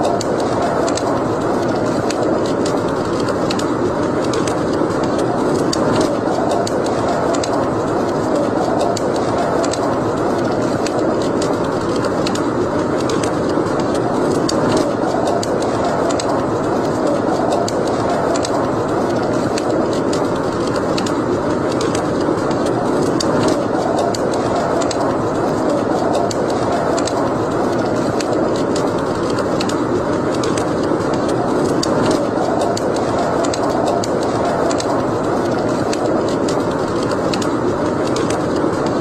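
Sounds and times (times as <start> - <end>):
fire crackling and popping: 0.0 - 39.0
fire rushing noise: 0.0 - 39.0.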